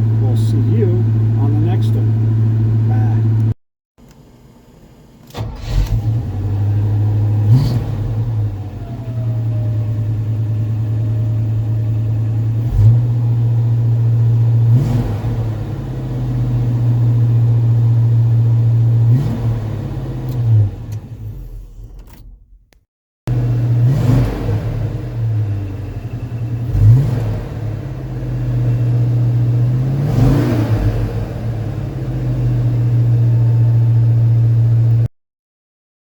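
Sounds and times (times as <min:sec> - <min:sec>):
truck engine idling and revving: 0:00.0 - 0:03.6, 0:05.3 - 0:35.1.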